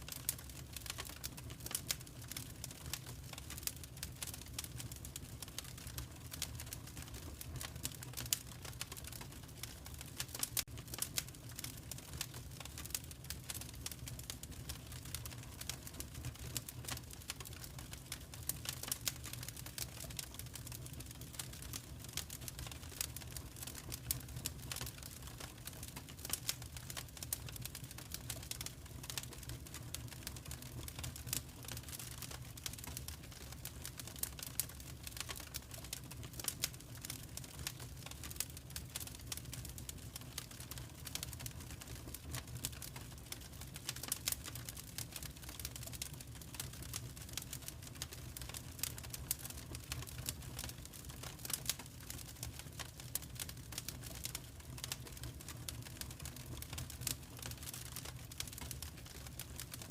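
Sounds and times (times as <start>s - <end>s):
low rumble of fire: 0.0s - 59.9s
wood fire crackling: 0.0s - 59.9s.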